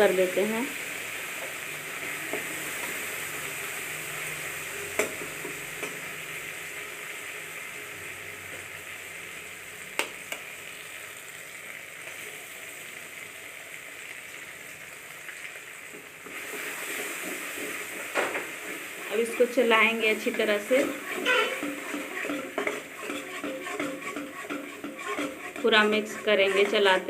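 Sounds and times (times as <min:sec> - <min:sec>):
egg sizzling in hot pan: 0:00.0 - 0:27.0
sauce sizzling in oil: 0:00.0 - 0:27.0.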